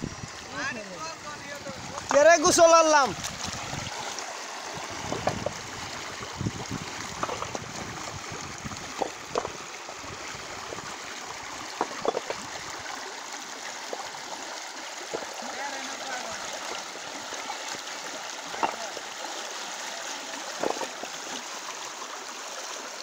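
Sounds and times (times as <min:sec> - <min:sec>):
fast-flowing water rushing: 0:00.0 - 0:23.0
water gurgles and splashes: 0:00.0 - 0:23.0.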